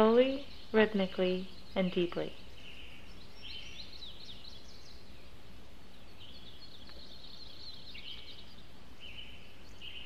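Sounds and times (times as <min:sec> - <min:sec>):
low background hiss: 0:00.0 - 0:10.0
small birds chirping and trilling: 0:00.0 - 0:10.0.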